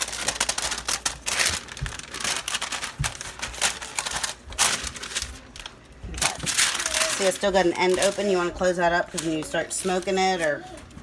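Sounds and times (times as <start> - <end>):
crinkling clicks of wrapping: 0.0 - 11.0.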